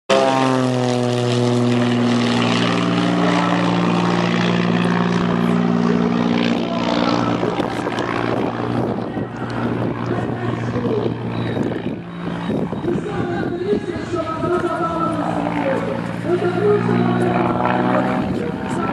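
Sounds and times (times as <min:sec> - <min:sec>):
propeller aircraft droning overhead: 0:00.1 - 0:18.9.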